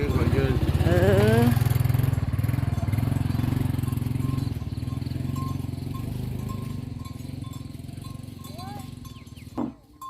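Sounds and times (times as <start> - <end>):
small vehicle engine running: 0.0 - 9.8.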